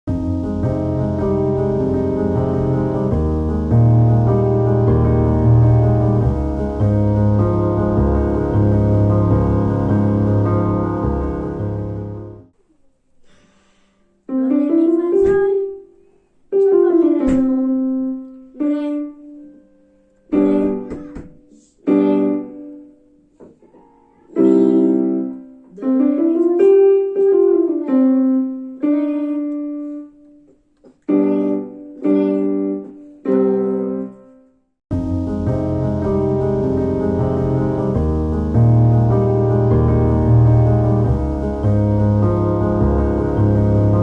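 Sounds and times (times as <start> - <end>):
piano phrases: 0.0 - 12.8, 14.2 - 44.0
piano block chords: 0.1 - 12.5, 14.3 - 15.9, 16.5 - 44.0.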